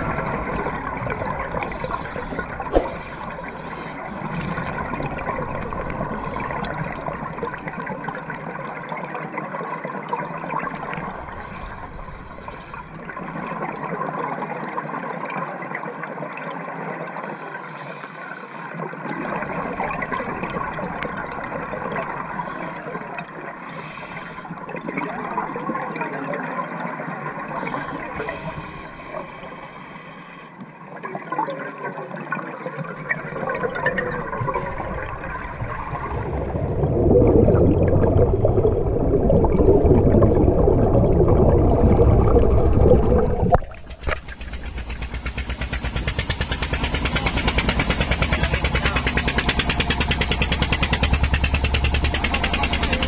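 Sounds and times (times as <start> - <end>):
air bubbles gurgling: 0.0 - 15.4, 18.8 - 29.7, 31.0 - 48.3
steady underwater hiss: 0.0 - 53.0.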